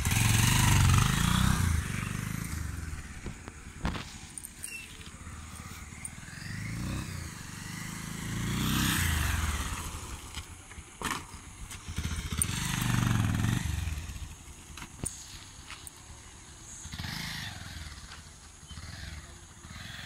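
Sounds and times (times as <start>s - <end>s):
motorcycle riding past: 0.0s - 14.6s, 16.2s - 20.0s.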